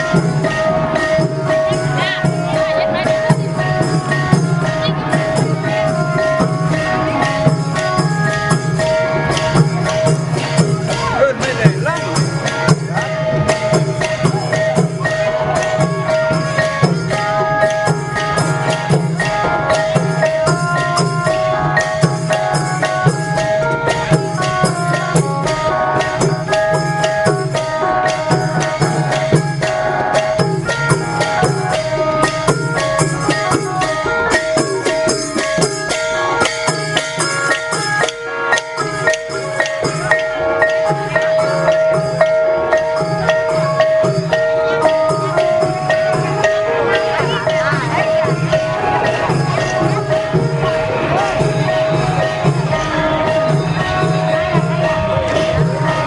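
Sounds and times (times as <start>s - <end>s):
fast percussion: 0.0s - 56.0s
xylophone-like melody: 0.0s - 56.0s.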